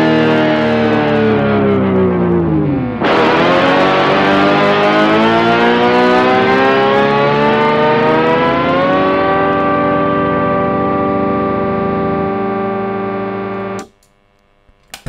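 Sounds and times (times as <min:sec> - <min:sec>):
distorted electric guitar: 0:00.0 - 0:15.0.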